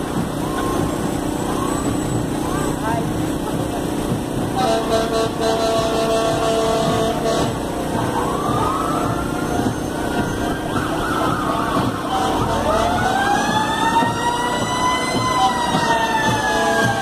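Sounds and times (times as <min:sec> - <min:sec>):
emergency sirens wailing: 0:00.0 - 0:17.0.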